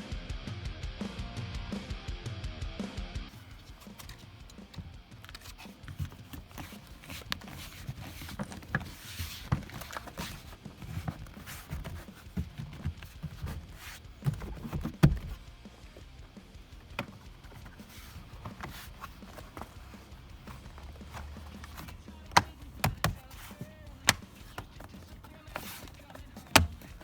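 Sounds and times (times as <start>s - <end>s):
clicks and knocks on car parts: 3.6s - 27.0s.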